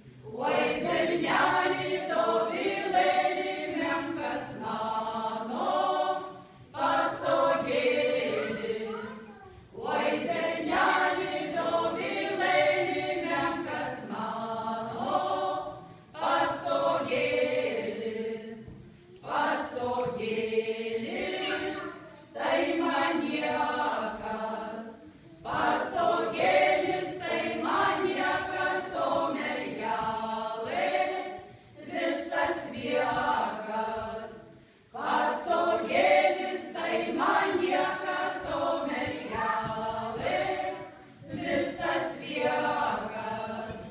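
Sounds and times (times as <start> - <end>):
women's choir singing a cappella: 0.0 - 43.9.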